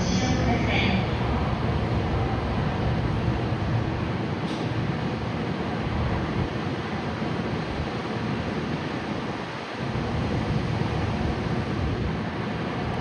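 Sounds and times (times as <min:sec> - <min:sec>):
electric train running on rails: 0:00.0 - 0:13.0.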